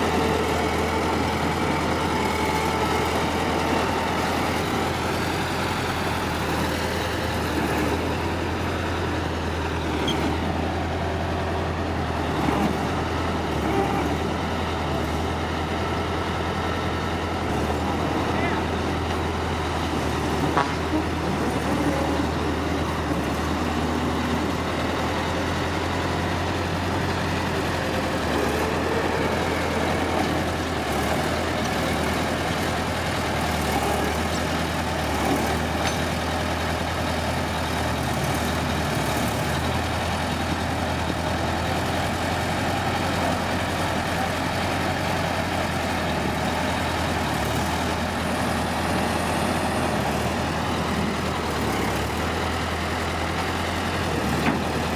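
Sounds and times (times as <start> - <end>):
heavy diesel engine droning: 0.0 - 54.9.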